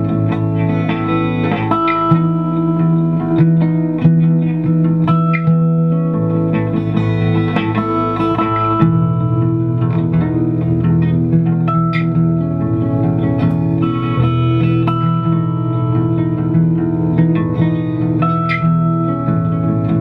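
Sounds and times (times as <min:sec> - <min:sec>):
acoustic bass guitar line: 0:00.0 - 0:20.0
plucked guitar riff: 0:00.0 - 0:20.0.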